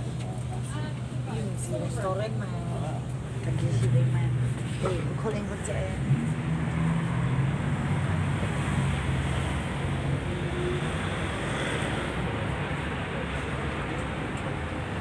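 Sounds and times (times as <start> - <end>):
tram running hum and rumble: 0.0 - 15.0.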